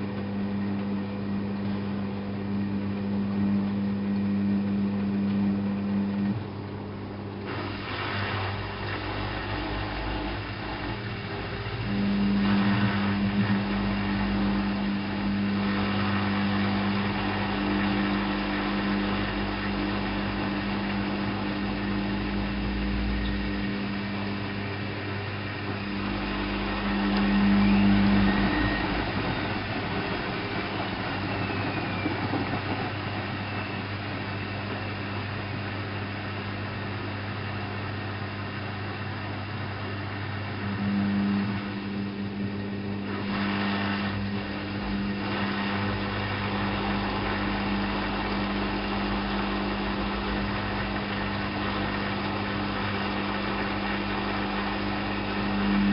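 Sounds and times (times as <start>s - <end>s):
low rumble: 0.0s - 55.9s
steady mechanical tone: 0.0s - 55.9s
washing machine hum: 0.0s - 55.9s.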